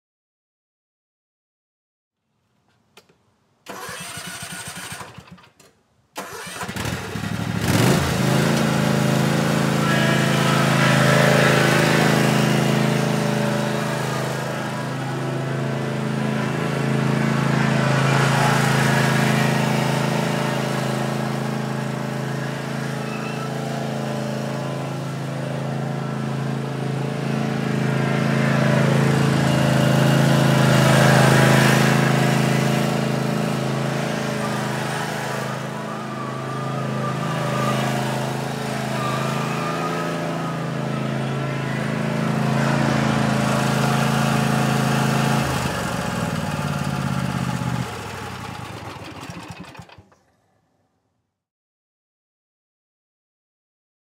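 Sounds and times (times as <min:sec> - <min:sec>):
lawn mower engine running: 0:03.0 - 0:50.5.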